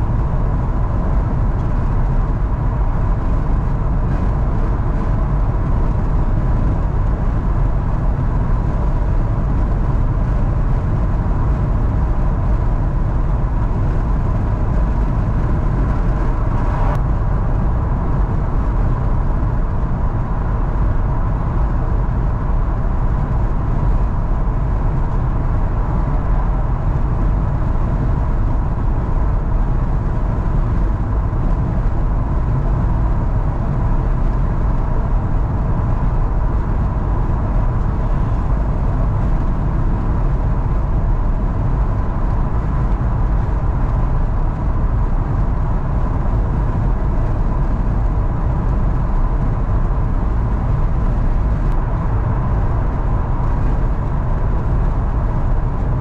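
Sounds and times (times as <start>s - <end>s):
faint steady whine: 0.0s - 56.0s
road and engine rumble: 0.0s - 56.0s.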